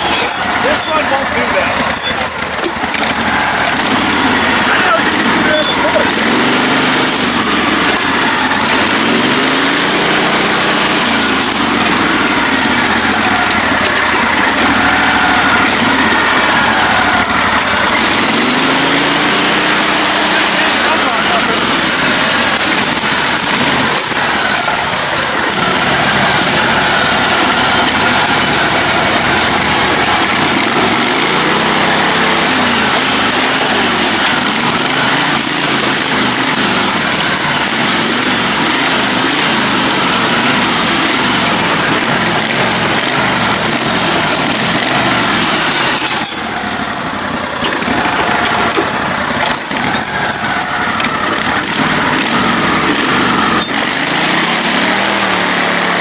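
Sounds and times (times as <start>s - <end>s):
riding mower engine revving: 0.0s - 56.0s.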